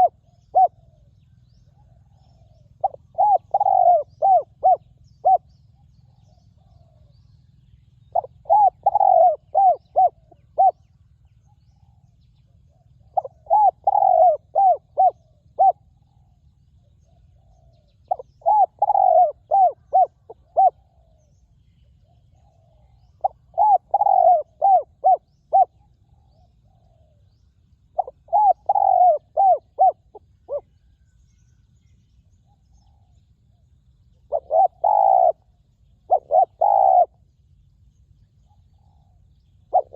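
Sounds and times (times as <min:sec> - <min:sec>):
dove cooing: 0:00.0 - 0:07.2, 0:08.0 - 0:11.0, 0:11.8 - 0:16.4, 0:17.0 - 0:30.8, 0:34.1 - 0:37.2, 0:38.5 - 0:39.9.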